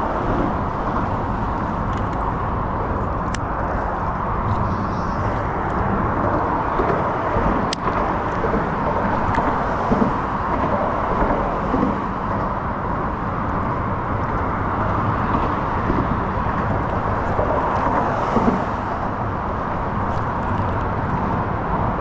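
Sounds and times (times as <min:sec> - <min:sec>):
traffic crossing bridge: 0:00.0 - 0:22.0.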